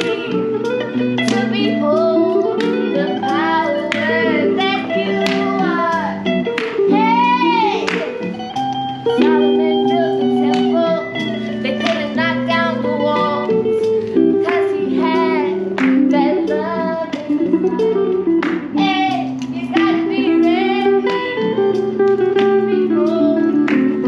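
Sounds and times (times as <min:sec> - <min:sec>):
person singing wordless melody: 0:00.0 - 0:06.3, 0:09.1 - 0:21.5, 0:22.2 - 0:24.0
guitar playing held notes: 0:00.0 - 0:24.0.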